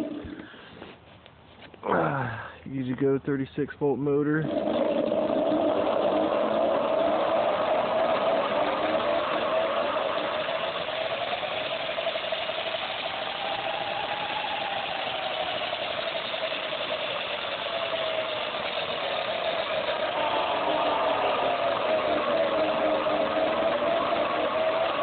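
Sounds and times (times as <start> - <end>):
electric motor whine: 4.5 - 25.0.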